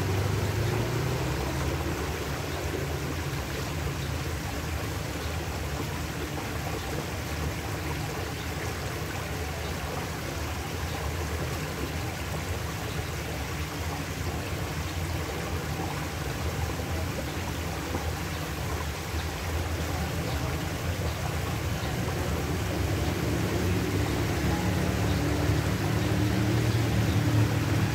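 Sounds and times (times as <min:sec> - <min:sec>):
stream water running through grate: 0:00.0 - 0:27.9.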